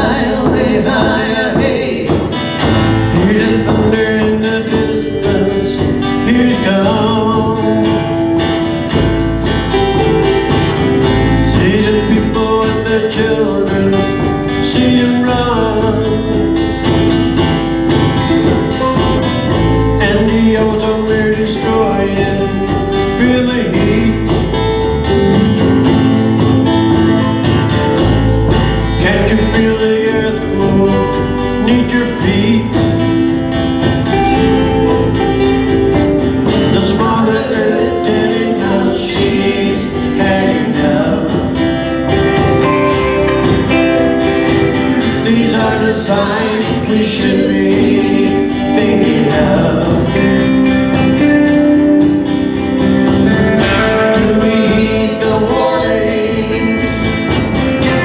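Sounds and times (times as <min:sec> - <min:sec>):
man singing: 0:00.0 - 0:58.0
strummed acoustic guitar: 0:00.0 - 0:58.0.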